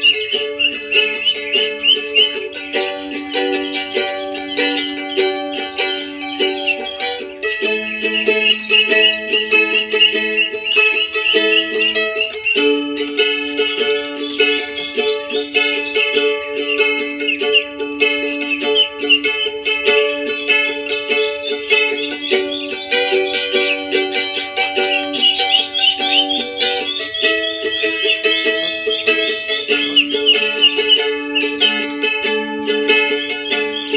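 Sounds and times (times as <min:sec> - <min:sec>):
mandolin melody: 0:00.0 - 0:33.9.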